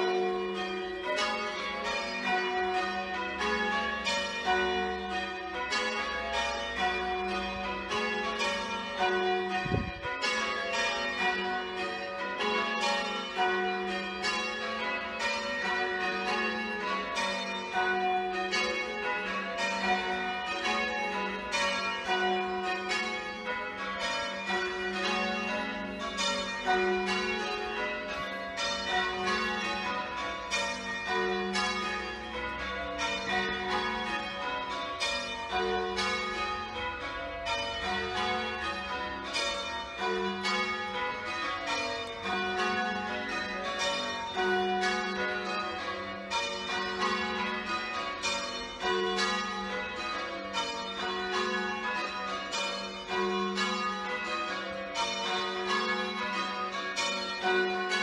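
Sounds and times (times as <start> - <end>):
church bells change ringing: 0.0 - 58.0.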